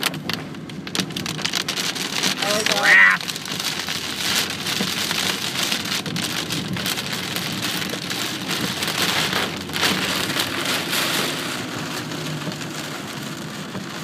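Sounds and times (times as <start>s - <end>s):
heavy rain on car roof: 0.0s - 14.0s.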